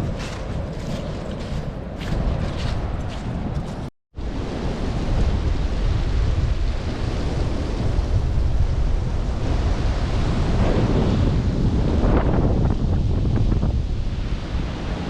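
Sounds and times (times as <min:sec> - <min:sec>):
rushing wind: 0:00.0 - 0:15.0
wind buffeting microphone: 0:00.0 - 0:15.0.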